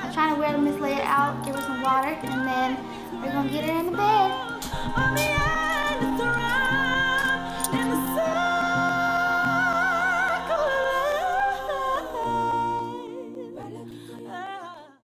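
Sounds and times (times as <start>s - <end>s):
sustained music chords: 0.0s - 14.1s
person singing with vibrato: 0.0s - 15.0s.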